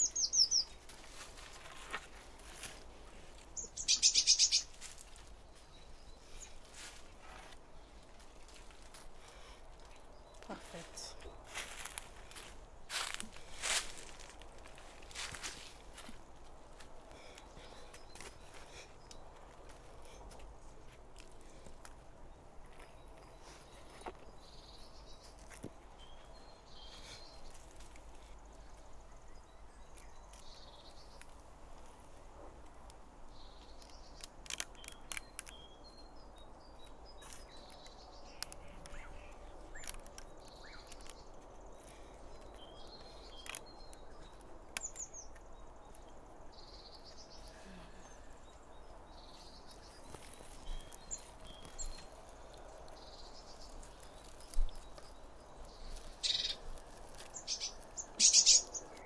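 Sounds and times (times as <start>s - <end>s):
birds chirping: 0.0s - 32.1s, 33.3s - 59.0s.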